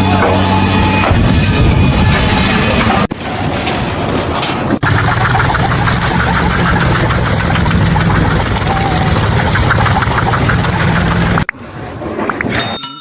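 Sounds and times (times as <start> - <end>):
engine running with rattle: 0.0 - 11.5.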